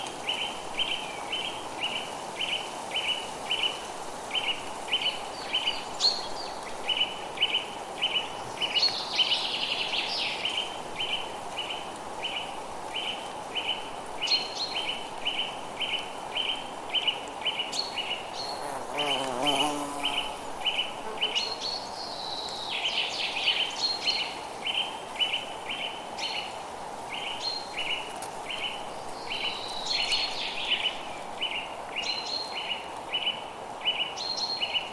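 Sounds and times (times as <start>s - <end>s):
steady background hiss: 0.0s - 34.9s.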